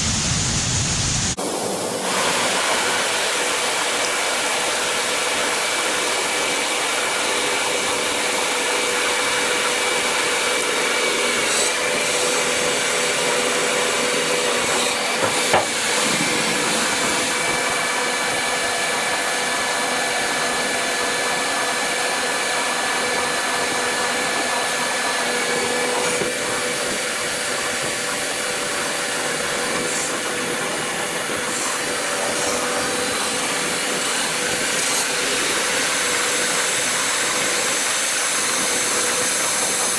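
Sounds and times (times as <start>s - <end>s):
tractor engine whirring drone: 0.0s - 39.8s
cab fan running: 1.4s - 39.9s.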